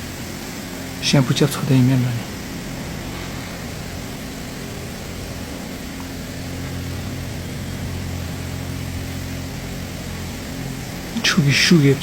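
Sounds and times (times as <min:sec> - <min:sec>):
mechanical hum: 0:00.0 - 0:12.0
water spraying hiss: 0:00.0 - 0:12.0.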